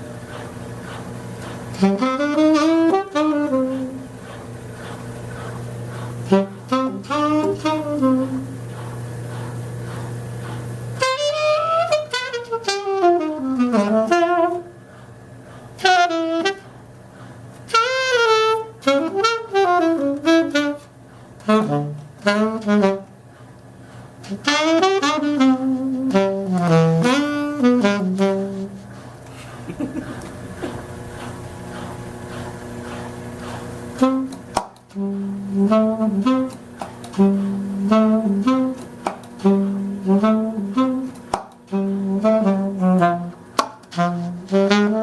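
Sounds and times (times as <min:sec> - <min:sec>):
saxophone playing bluesy phrases: 0:00.0 - 0:45.0.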